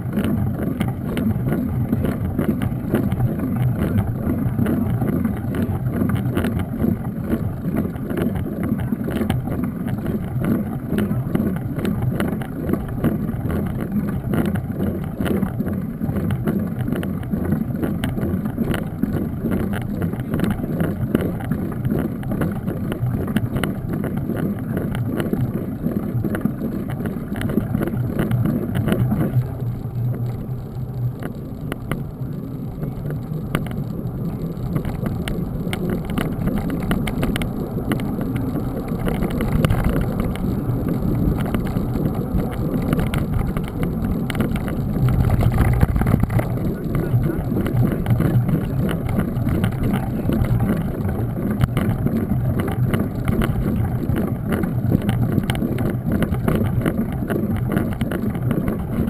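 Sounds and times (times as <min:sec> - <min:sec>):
bike rattles and knocks: 0:00.0 - 0:59.0
bike tyres rumbling on rough road: 0:00.0 - 0:59.0
wind over microphone: 0:00.0 - 0:59.0.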